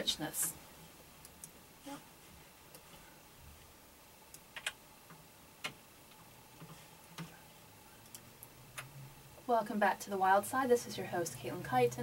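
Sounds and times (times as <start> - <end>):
low room hiss: 0.0 - 12.0.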